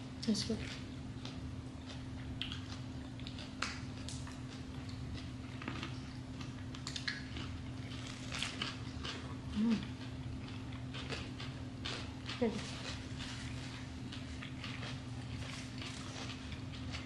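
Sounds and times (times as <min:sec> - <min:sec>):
people crunching and chewing: 0:00.4 - 0:17.0.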